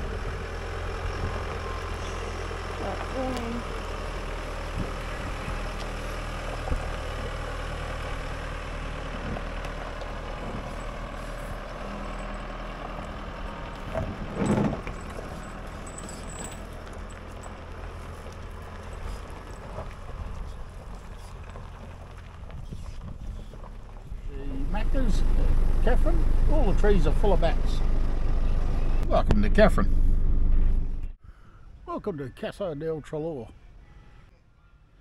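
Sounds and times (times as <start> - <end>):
low engine drone: 0.0 - 22.0, 23.3 - 31.2.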